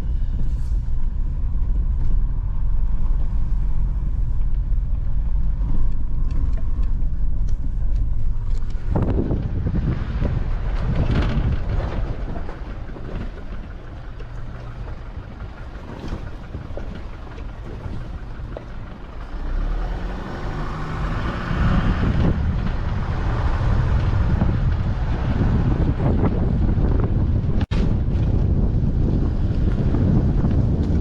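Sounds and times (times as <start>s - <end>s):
vehicle engine and tyre rumble: 0.0s - 31.0s.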